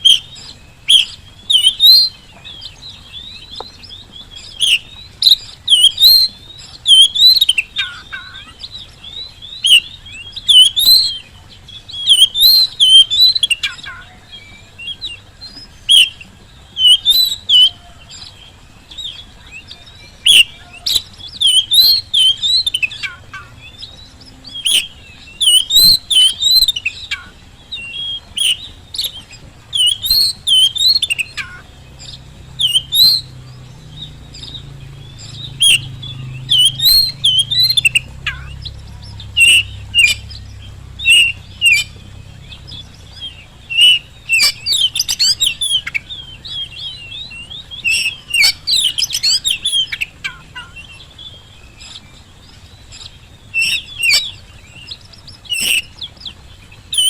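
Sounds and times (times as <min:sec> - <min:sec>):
songbird whistling song: 0:00.0 - 0:57.0.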